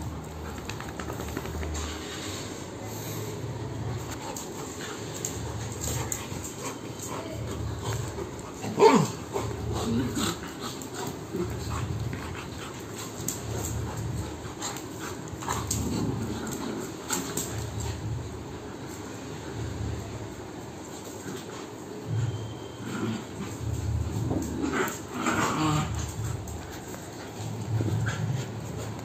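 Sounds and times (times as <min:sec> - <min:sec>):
dogs play-fighting: 0:00.0 - 0:29.0.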